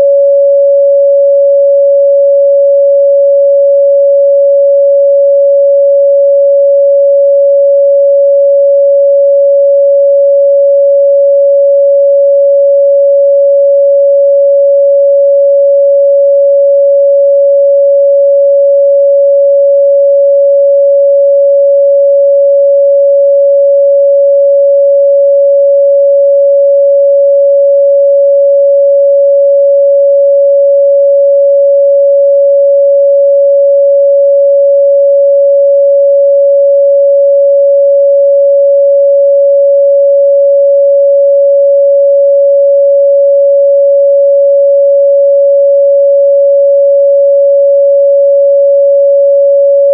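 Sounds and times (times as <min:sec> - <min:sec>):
sine-wave test tone: 0:00.0 - 0:49.9.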